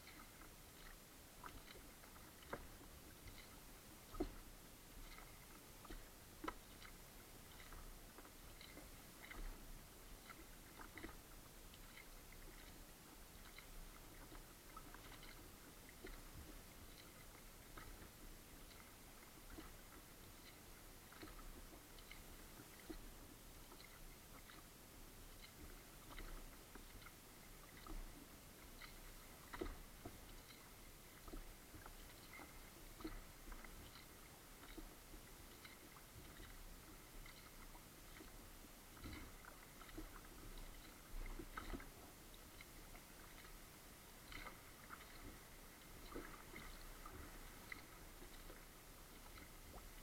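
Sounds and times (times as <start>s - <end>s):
low hiss: 0.0s - 50.0s
paddle splashing in water: 0.0s - 50.0s.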